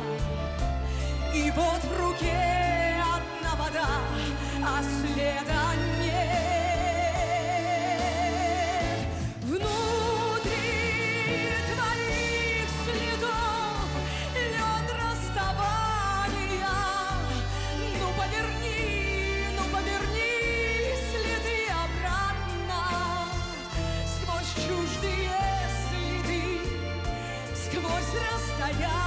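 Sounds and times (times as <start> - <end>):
band accompaniment: 0.0 - 29.0
person singing pop ballad: 0.0 - 29.0.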